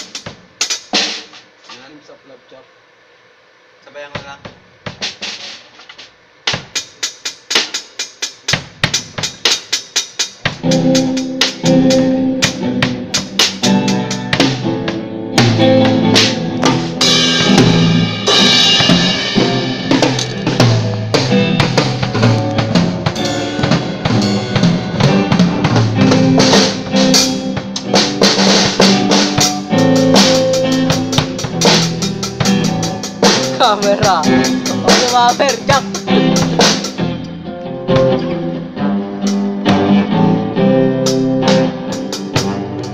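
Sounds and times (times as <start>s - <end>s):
drum kit playing: 0.0s - 2.2s, 4.0s - 42.9s.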